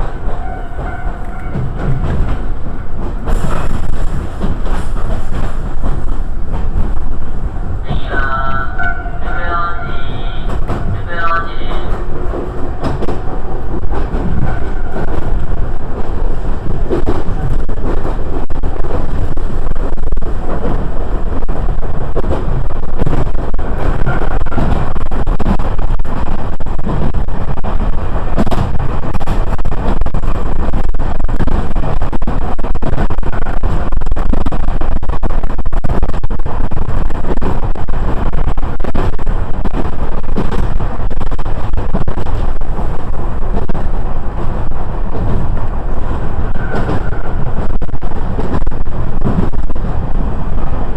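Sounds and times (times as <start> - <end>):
train wheels and motors rumbling: 0.0 - 50.9.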